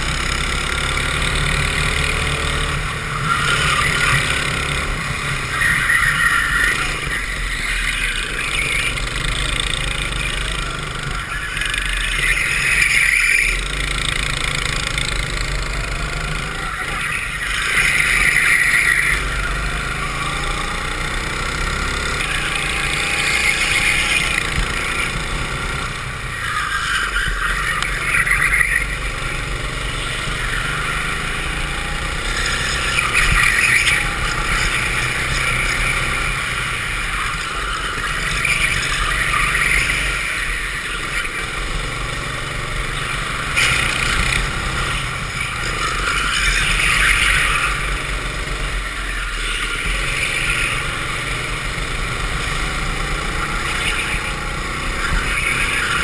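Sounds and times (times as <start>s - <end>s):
go-kart engine running hard: 0.0s - 56.0s.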